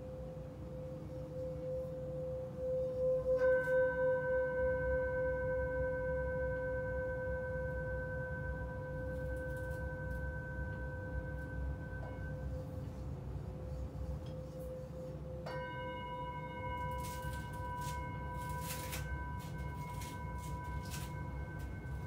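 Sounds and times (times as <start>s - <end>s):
metal singing bowl ringing: 0.0s - 22.0s.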